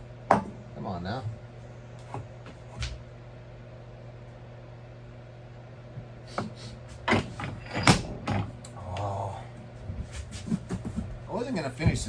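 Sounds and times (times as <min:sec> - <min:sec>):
low workshop hum: 0:00.0 - 0:12.0.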